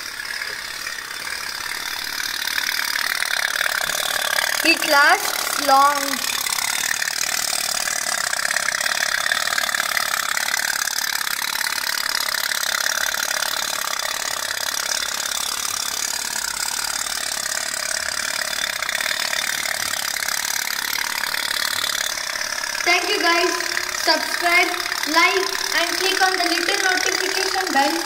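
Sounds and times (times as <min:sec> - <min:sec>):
toy steam boat putt-putt: 0:00.0 - 0:28.0.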